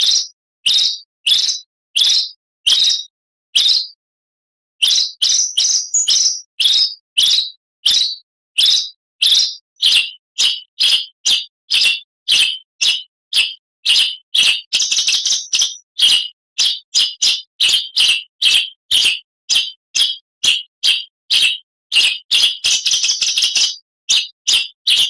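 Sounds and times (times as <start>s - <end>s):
magpie-robin whistled song: 0.0s - 4.0s, 4.8s - 25.0s.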